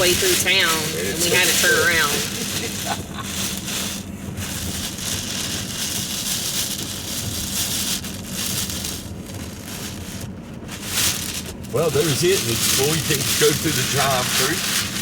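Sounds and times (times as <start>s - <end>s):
hurricane wind: 0.0s - 15.0s.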